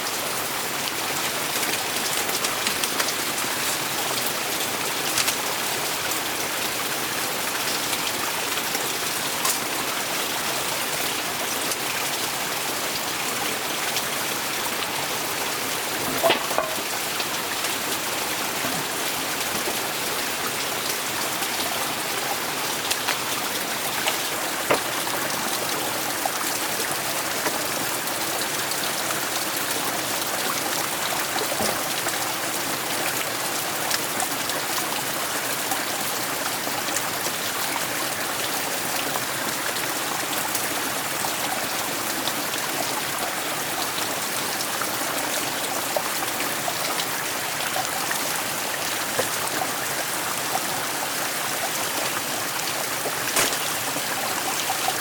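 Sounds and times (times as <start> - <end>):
water ticks and drips: 0.0 - 55.0.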